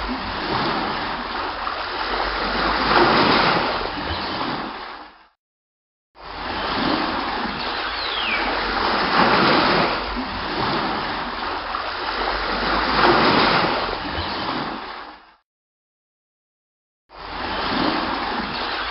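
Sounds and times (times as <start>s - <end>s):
water splashing: 0.0s - 5.2s, 6.2s - 15.4s, 17.2s - 18.9s
sea noise: 0.0s - 5.3s, 6.2s - 15.4s, 17.1s - 18.9s
wind: 0.0s - 5.4s, 6.2s - 15.4s, 17.1s - 18.9s.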